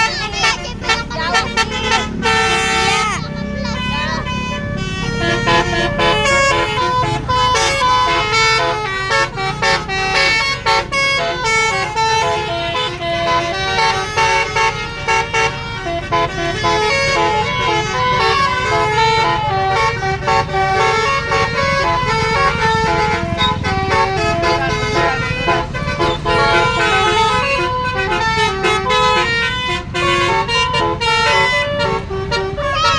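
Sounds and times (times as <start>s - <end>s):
multi-trumpet air horns playing tune: 0.0s - 32.9s.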